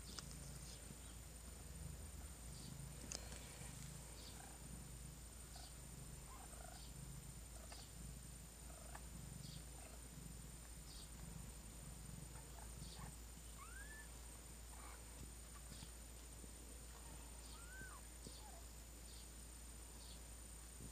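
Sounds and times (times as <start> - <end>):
cat purring: 0.0 - 19.2.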